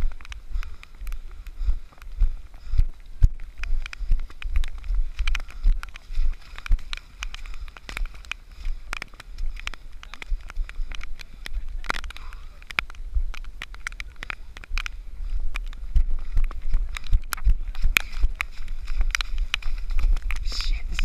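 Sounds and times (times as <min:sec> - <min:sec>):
footfalls in wet mud: 0:00.0 - 0:21.0
sharp crackling clicks: 0:00.0 - 0:21.0.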